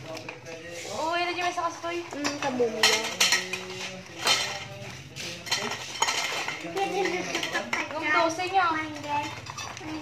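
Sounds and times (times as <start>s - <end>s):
metal tubes clinking: 1.4s - 10.0s.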